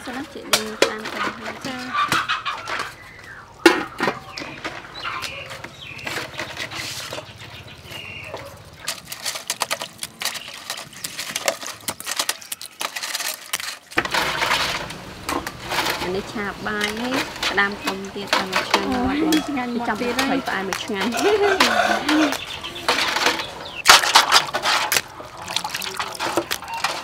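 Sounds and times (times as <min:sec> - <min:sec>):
crabs clicking and scraping in bowl: 0:00.0 - 0:27.0.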